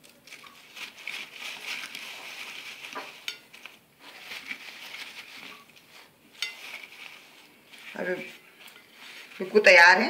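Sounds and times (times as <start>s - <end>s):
paper napkin rustling and crinkling: 0.0s - 10.0s.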